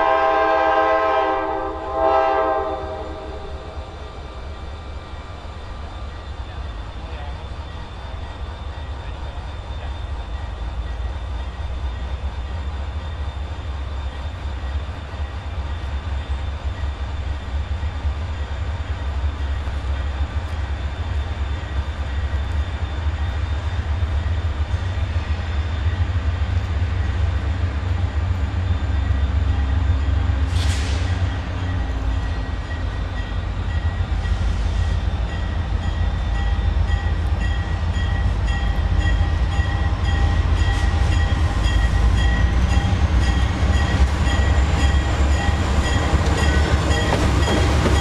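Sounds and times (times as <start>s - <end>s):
diesel locomotive rumble: 0.0s - 48.0s.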